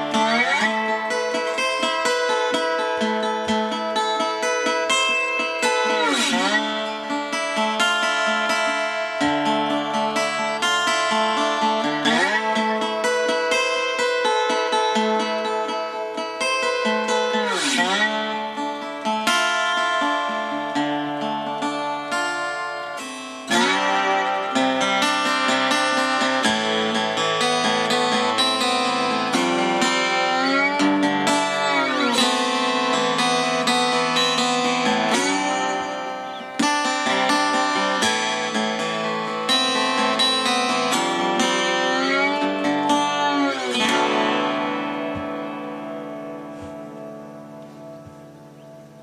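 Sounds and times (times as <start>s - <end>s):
slide guitar chords: 0.0s - 49.0s.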